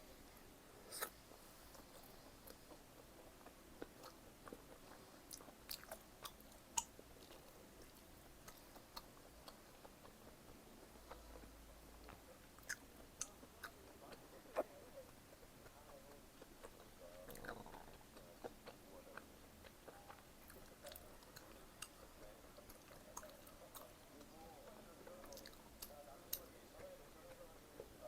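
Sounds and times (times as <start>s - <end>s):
quiet chewing: 0.8s - 28.0s.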